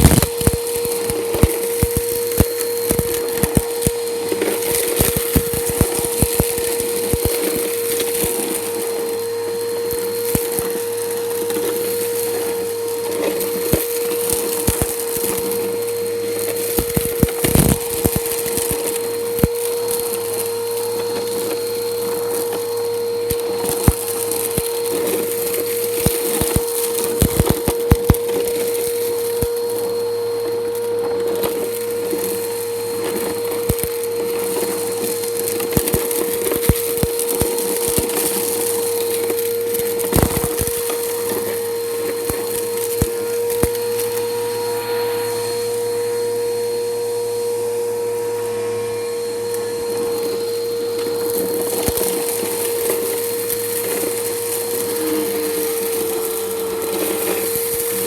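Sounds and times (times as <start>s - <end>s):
grit crackling in vacuum: 0.0s - 58.0s
vacuum cleaner motor whine: 0.0s - 58.0s.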